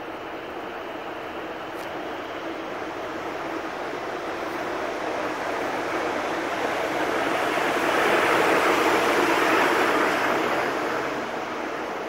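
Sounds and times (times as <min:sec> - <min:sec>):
high-speed train rolling past: 0:00.0 - 0:12.0.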